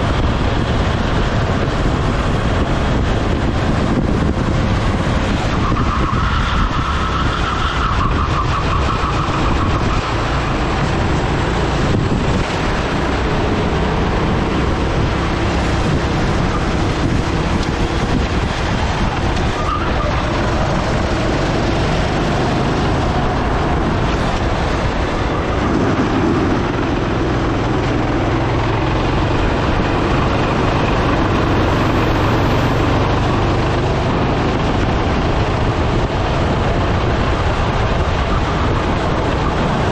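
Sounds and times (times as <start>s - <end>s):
kart engine running: 0.0s - 39.9s
rushing air noise: 0.0s - 39.9s.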